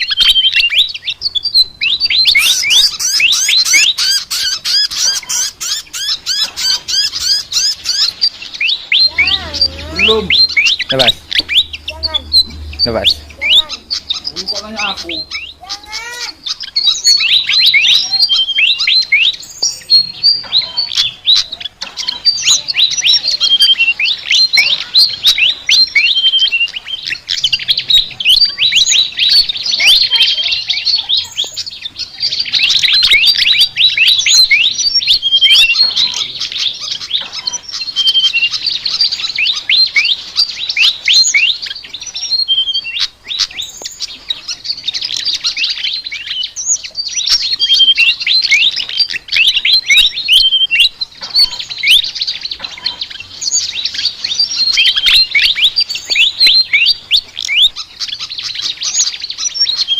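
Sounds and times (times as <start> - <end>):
flycatcher singing fast chatter: 0.0 - 59.9.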